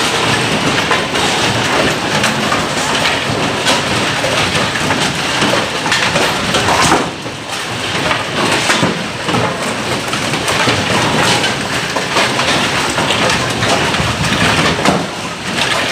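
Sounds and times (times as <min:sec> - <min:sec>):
pins clattering: 0:00.0 - 0:15.9
pinsetter machinery rumble: 0:00.0 - 0:15.9.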